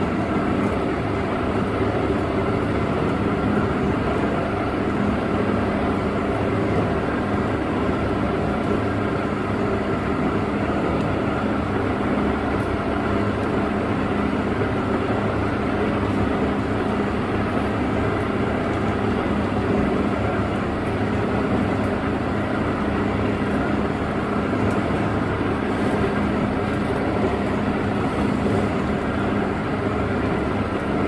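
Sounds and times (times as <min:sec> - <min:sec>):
hull rushing through choppy water: 0:00.0 - 0:31.0
motorboat engine drone: 0:00.0 - 0:31.0.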